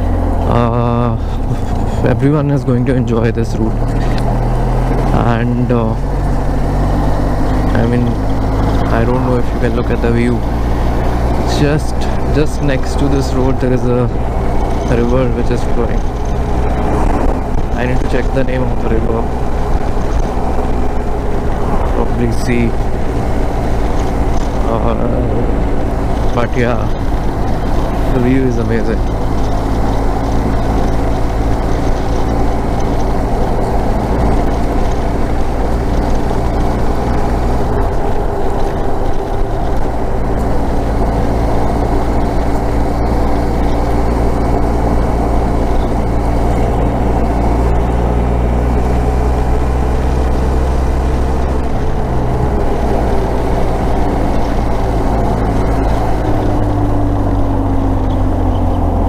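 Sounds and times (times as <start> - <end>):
motorcycle engine running: 0.0 - 59.0
road and air noise: 0.0 - 59.0.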